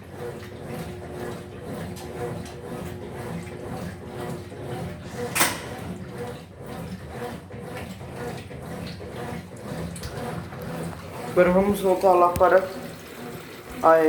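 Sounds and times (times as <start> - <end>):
washing machine running: 0.0 - 14.0.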